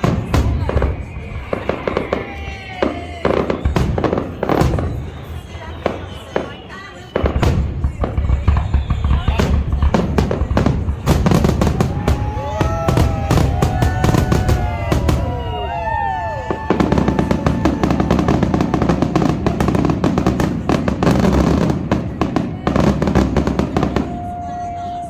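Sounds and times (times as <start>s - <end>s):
fireworks bangs and crackling: 0.0s - 25.0s
whistling fireworks: 0.0s - 25.0s.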